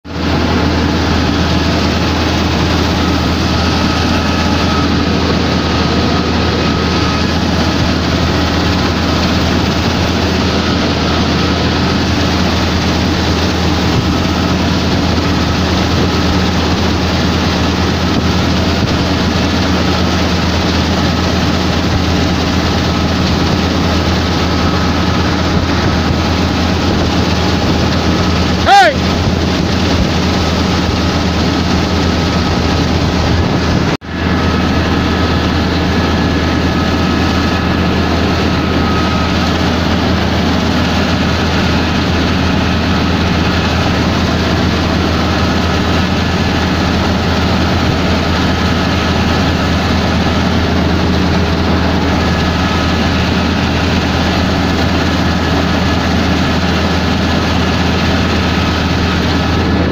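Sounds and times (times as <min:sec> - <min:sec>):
combine harvester drone: 0:00.0 - 0:59.9.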